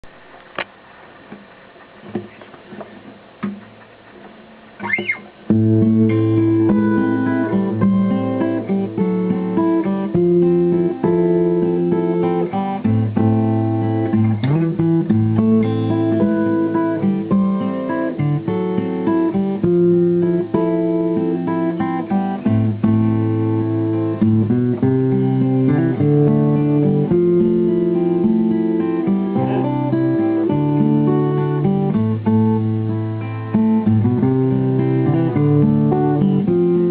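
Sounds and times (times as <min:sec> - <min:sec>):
acoustic guitar picking: 0:01.3 - 0:36.9.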